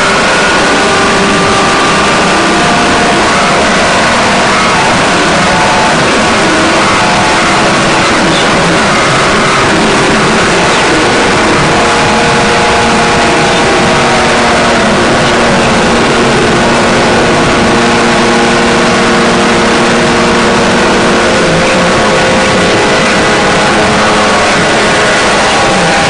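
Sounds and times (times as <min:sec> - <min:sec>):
harsh noise drone music: 0:00.0 - 0:26.0.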